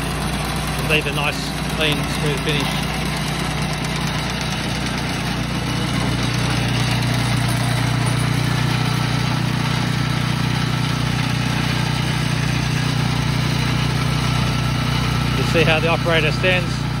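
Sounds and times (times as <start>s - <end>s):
beach cleaner engine humming: 0.0s - 17.0s.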